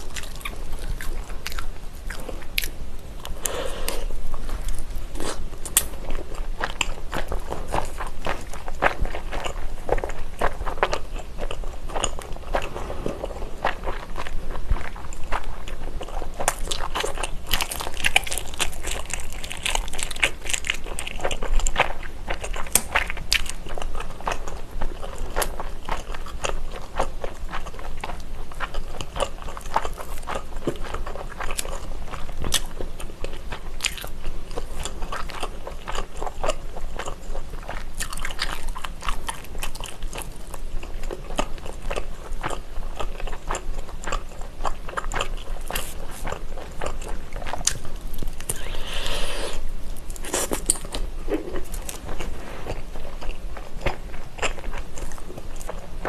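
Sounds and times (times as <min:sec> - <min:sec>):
close-miked chewing and biting: 0:00.0 - 0:49.0, 0:50.0 - 0:56.0.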